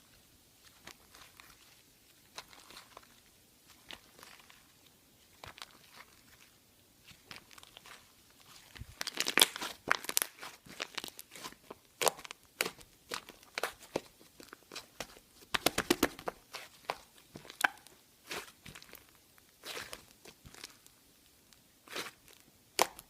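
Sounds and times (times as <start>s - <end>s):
sticky crackles and pops of slime: 0.6s - 4.7s, 5.3s - 23.0s.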